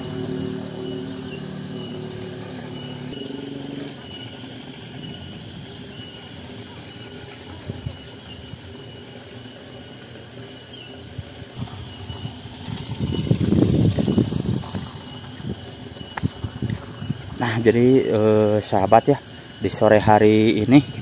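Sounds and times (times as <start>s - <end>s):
low hum: 0.0s - 18.2s
cicadas droning: 0.0s - 21.0s.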